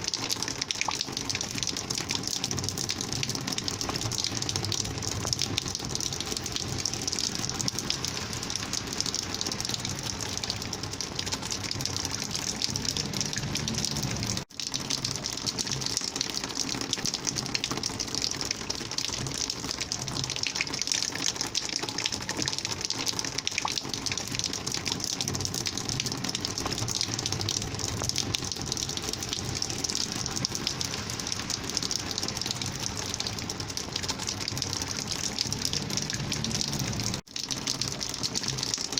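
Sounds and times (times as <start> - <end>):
rainwater flowing and gushing: 0.0 - 38.9.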